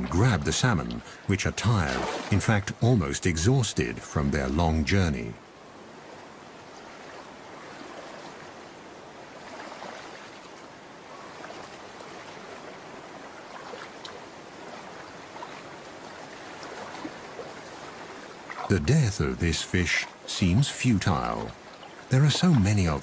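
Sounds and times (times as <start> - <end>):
stream water running: 0.0 - 23.0.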